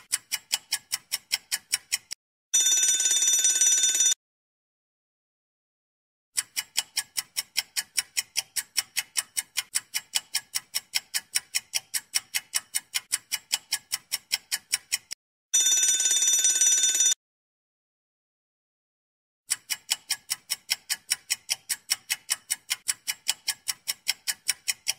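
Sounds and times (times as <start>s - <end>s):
rapid clock ticking: 0.0s - 4.1s, 6.4s - 17.1s, 19.5s - 24.9s.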